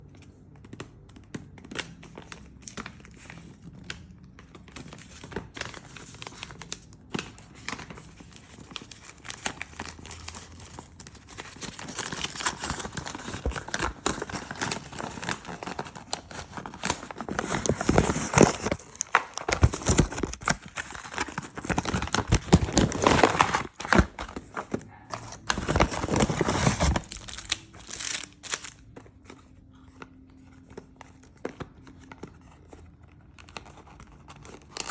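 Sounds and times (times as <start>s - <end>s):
cardboard and plastic clicks and rustles: 0.0s - 34.9s
plastic film crinkling and tearing: 1.7s - 29.6s, 30.2s - 34.9s.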